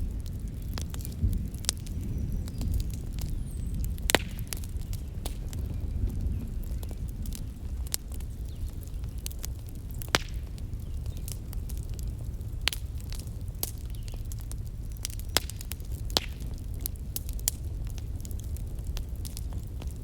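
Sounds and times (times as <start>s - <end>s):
campfire crackling: 0.0s - 20.0s
fire popping: 0.0s - 20.0s.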